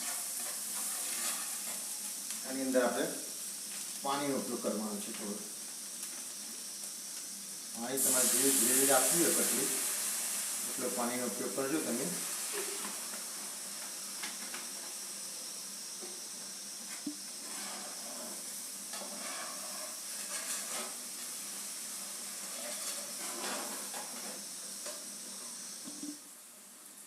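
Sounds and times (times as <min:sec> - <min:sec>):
gravy sizzling in a hot pan: 0:00.0 - 0:27.0.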